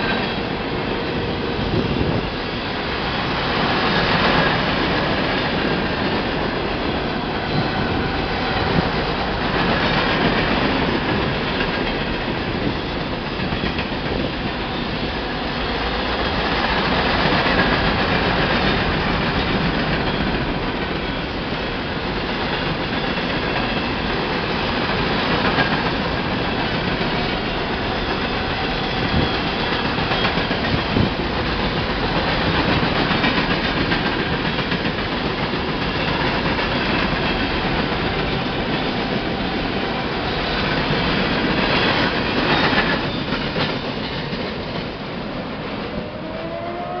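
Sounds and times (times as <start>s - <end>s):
freight train rolling past: 0.0s - 47.0s.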